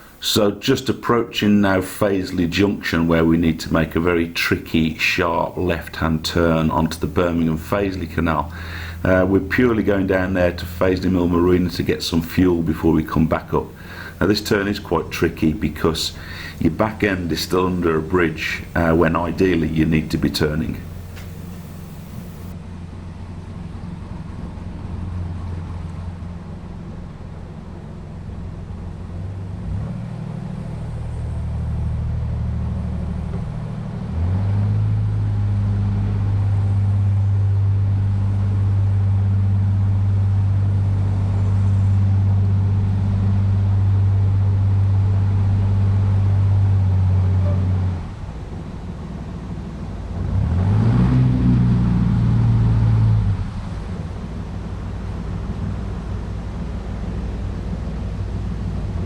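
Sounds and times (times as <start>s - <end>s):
boat diesel engine running: 0.0s - 59.0s.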